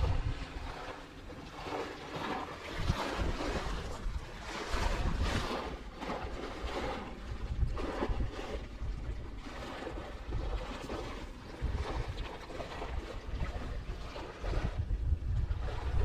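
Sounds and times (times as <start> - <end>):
gusty wind buffeting microphone: 0.0 - 0.9, 2.6 - 16.0
water washing at shore: 0.0 - 16.0.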